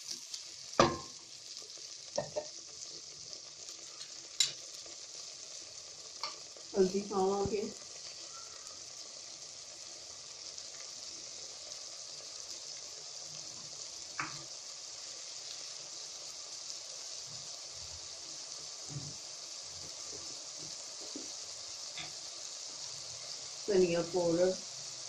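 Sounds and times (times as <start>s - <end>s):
paste sizzling in a pan: 0.0s - 25.0s.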